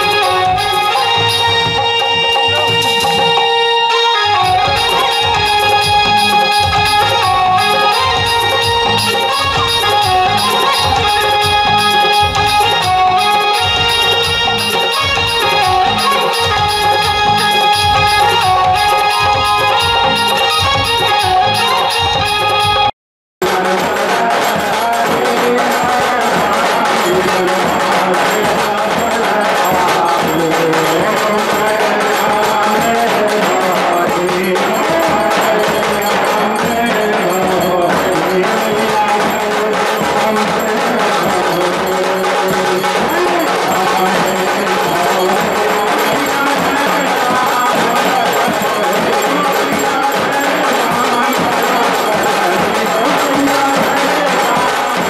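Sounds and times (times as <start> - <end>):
bell-like tones: 0.0 - 55.0
music with busy percussion: 0.0 - 55.0.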